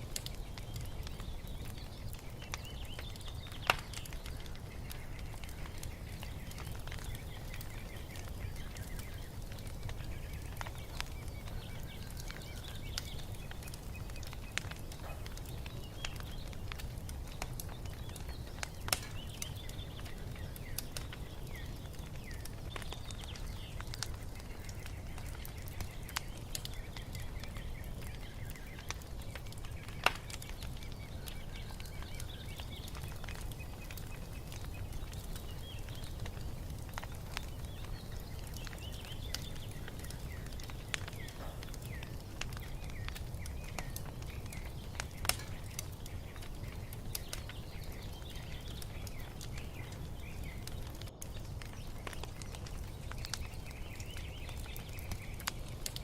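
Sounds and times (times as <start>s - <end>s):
birds chirping faintly: 0.0s - 56.0s
wood fire crackling and popping: 0.0s - 56.0s.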